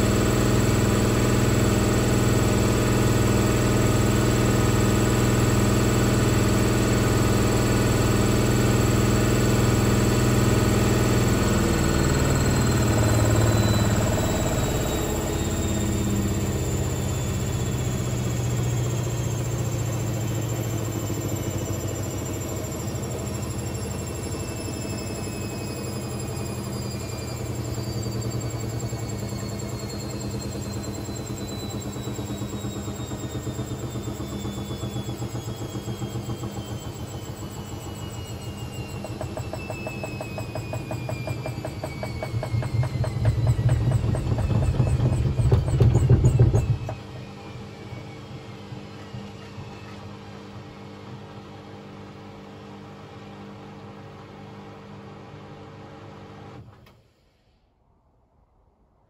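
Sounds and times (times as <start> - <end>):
pulsing drum rumble: 0.0 - 51.4
washing machine motor whine: 0.0 - 57.0.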